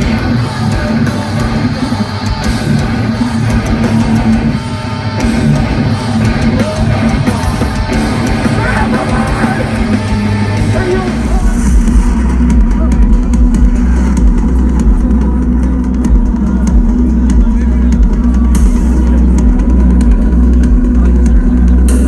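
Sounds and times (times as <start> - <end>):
distorted electric guitars: 0.0 - 22.0
drums: 0.0 - 22.0.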